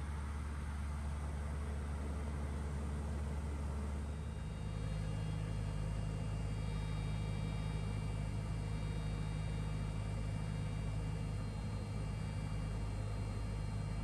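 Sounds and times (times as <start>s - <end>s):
light aircraft engine drone: 0.0s - 14.0s.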